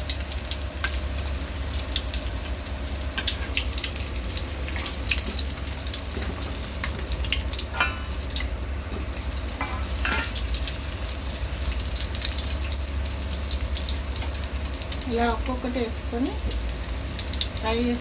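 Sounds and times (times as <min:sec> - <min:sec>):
chicken deep-frying in oil: 0:00.0 - 0:18.0.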